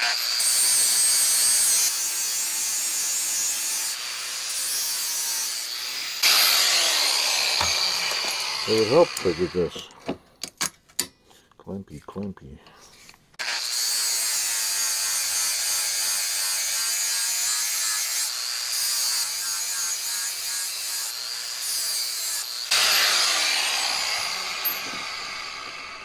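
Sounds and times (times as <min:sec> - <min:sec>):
power grinder grinding steel: 0:00.0 - 0:09.9, 0:13.4 - 0:26.0.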